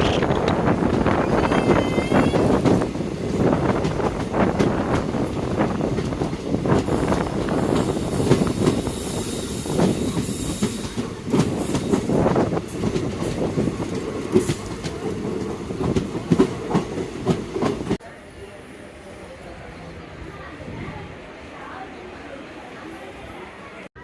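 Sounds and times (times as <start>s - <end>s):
train coaches rumbling: 0.0s - 24.0s.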